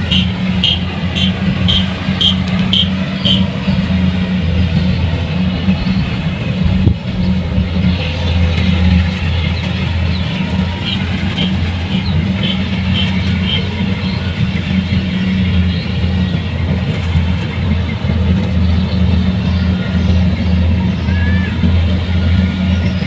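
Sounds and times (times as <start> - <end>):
combine harvester diesel engine: 0.0 - 23.0.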